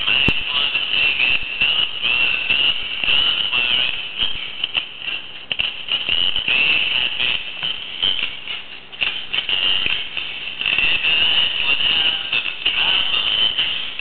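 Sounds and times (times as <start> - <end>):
toy music through small speaker: 0.0 - 14.0.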